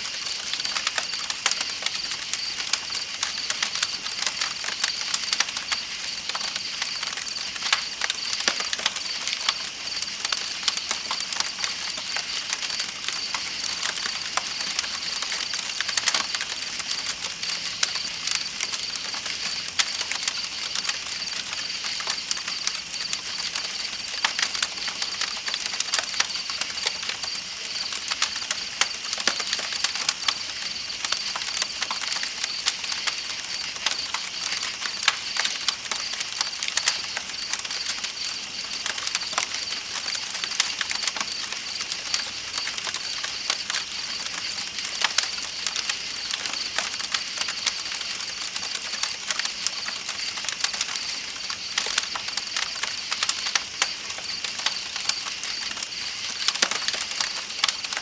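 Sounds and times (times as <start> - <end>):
campfire crackling and popping: 0.0 - 58.0
night insects trilling: 0.0 - 58.0.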